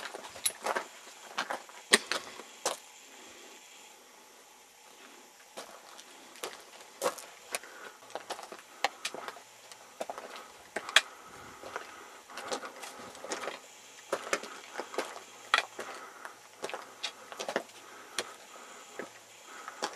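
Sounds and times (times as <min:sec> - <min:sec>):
footsteps crunching on stones: 0:00.0 - 0:02.9, 0:05.6 - 0:19.9.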